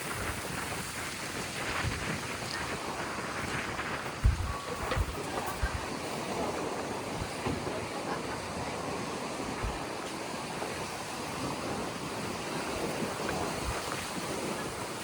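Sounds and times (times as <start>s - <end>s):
sea waves breaking ashore: 0.0s - 15.0s
wind buffeting microphone: 0.0s - 15.0s.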